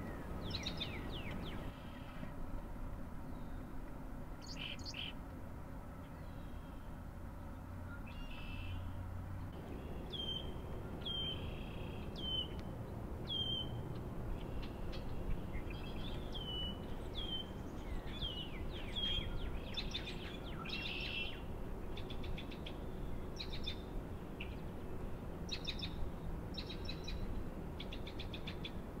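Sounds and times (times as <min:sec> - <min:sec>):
songbirds singing and calling: 0:00.0 - 0:02.4, 0:03.1 - 0:29.0
low wind rumble: 0:00.0 - 0:29.0.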